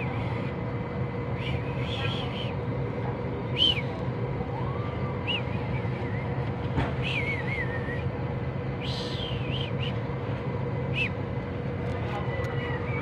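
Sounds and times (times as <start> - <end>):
street background rumble: 0.0 - 13.0.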